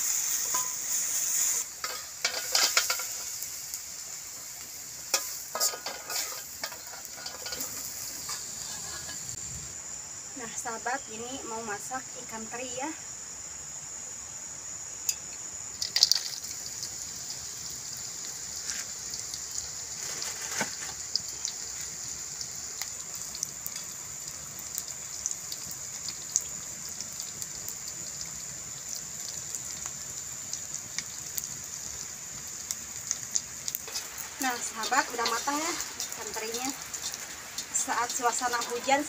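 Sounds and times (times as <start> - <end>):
oil crackling and popping: 0.0 - 9.3, 15.8 - 39.0
fish sizzling in hot oil: 0.0 - 9.4, 15.1 - 39.0.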